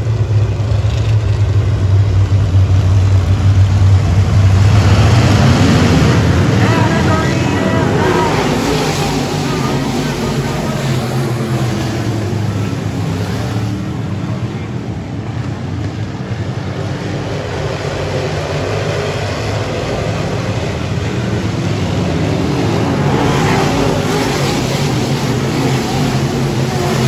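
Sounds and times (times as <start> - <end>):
race car engines: 0.0 - 27.0
track noise: 0.0 - 27.0.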